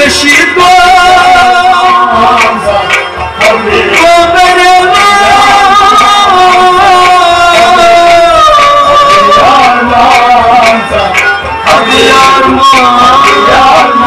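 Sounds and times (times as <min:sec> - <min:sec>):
harmonium: 0:00.0 - 0:14.0
men singing: 0:00.0 - 0:14.0.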